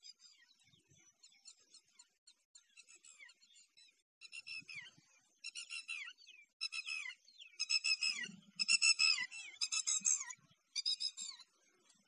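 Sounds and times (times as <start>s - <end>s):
small birds singing and chirping: 0.0s - 12.0s.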